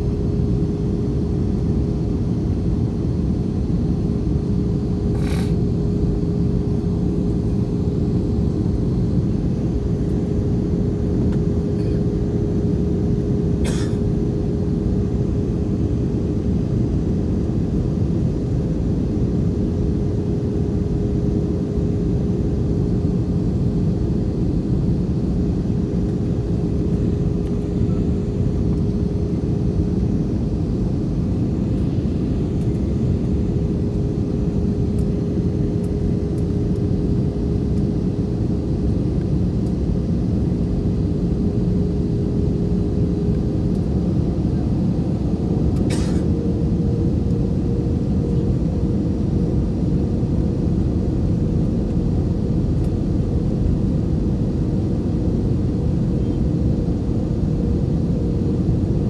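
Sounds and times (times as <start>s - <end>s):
constant hum: 0.0s - 59.0s
jet cabin engine rumble: 0.0s - 59.0s.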